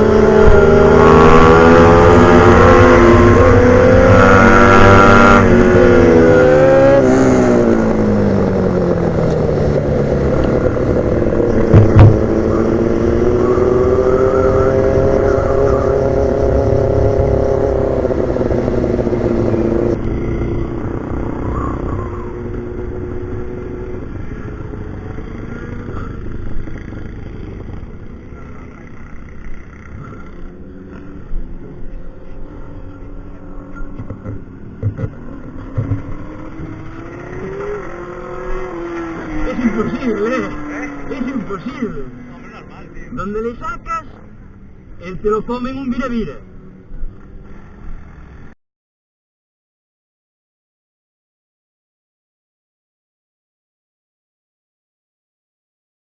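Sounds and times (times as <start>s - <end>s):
motorcycle engine: 0.0s - 48.5s.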